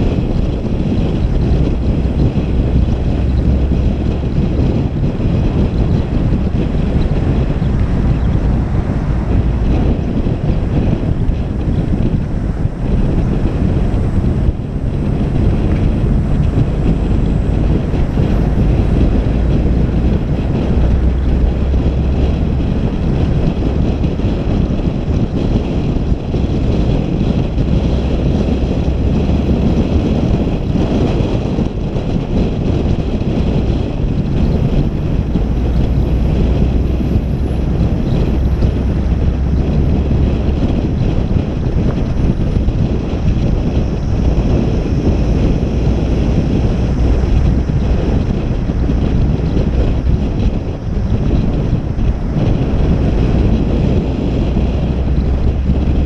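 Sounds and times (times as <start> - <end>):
steady low rumble: 0.0 - 56.0
wind buffeting microphone: 0.0 - 56.0.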